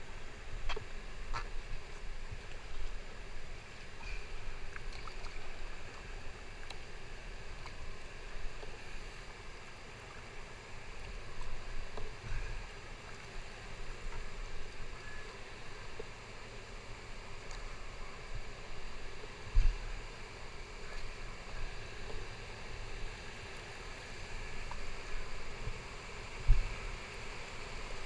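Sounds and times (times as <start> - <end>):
low rumble and hiss: 0.0 - 28.0
water lapping and trickling: 0.0 - 28.0
paddle drips and splashes: 0.6 - 26.8.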